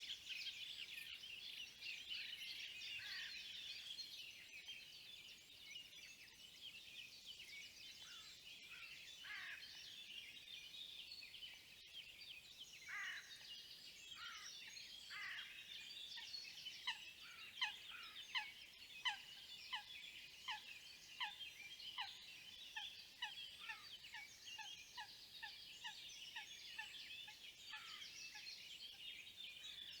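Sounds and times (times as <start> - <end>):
wild birds calling and singing: 0.0 - 30.0.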